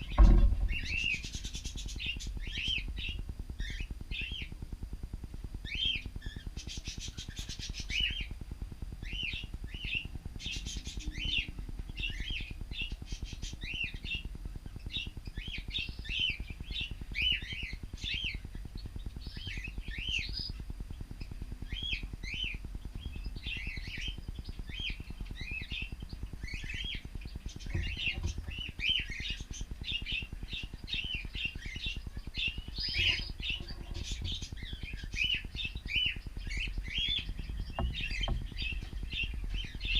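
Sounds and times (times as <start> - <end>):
steady low rumble: 0.0 - 6.6, 8.0 - 39.9.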